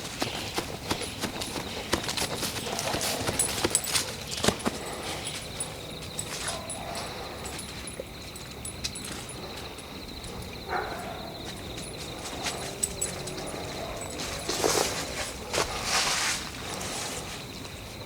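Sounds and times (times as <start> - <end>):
cracks and rustles in undergrowth: 0.0 - 18.0
high insect trill: 0.0 - 18.0.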